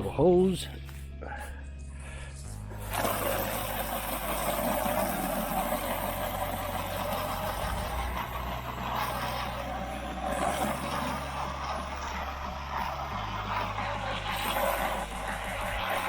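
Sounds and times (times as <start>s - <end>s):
low steady hum: 0.0s - 16.0s
hose spraying water on siding: 2.7s - 16.0s.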